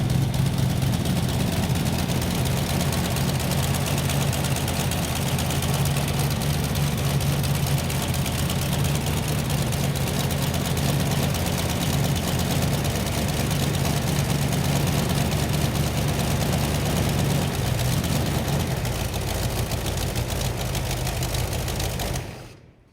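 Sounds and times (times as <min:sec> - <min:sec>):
car engine idling: 0:00.0 - 0:22.6.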